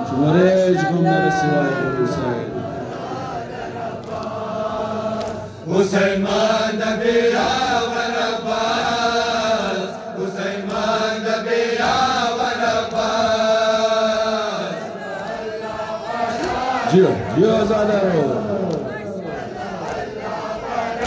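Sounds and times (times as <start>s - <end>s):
mourning chant sung: 0.0s - 21.0s.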